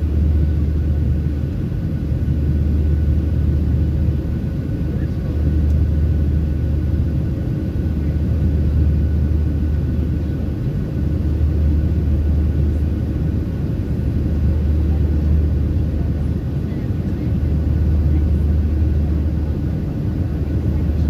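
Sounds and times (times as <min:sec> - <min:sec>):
airplane cabin engine drone: 0:00.0 - 0:21.0.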